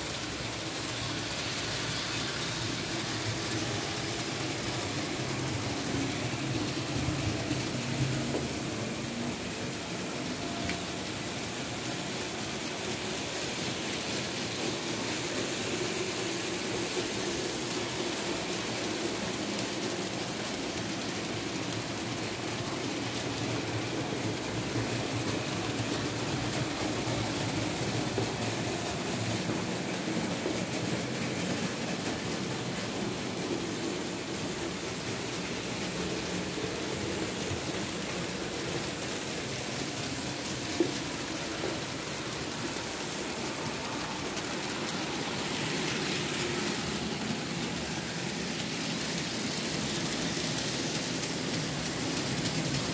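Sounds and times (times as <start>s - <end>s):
model train motor humming: 0.0s - 52.9s
wheels rolling on rails: 0.0s - 52.9s.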